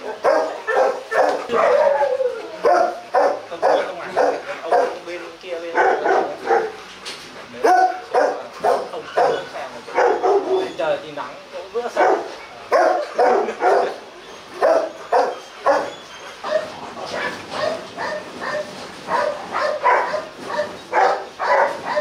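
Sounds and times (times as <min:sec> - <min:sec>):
dog barking: 0:00.0 - 0:05.0, 0:05.7 - 0:06.8, 0:07.6 - 0:10.7, 0:12.0 - 0:14.0, 0:14.6 - 0:22.0.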